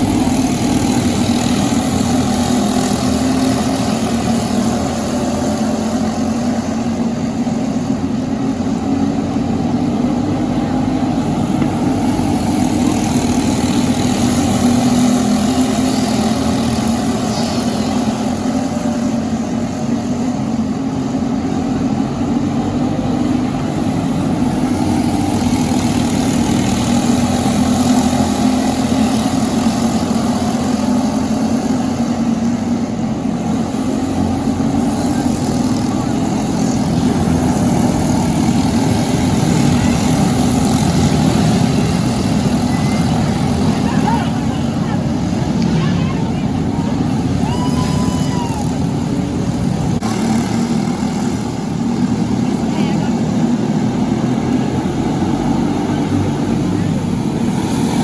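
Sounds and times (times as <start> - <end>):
kart engine droning: 0.0 - 58.0.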